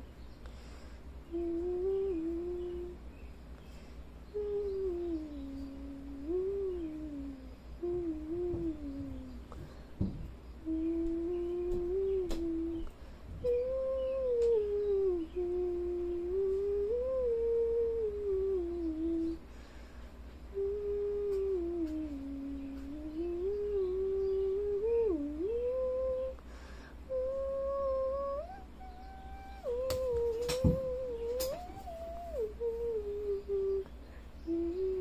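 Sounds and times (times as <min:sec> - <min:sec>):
person humming: 0:01.2 - 0:03.1, 0:04.3 - 0:19.5, 0:20.5 - 0:35.0.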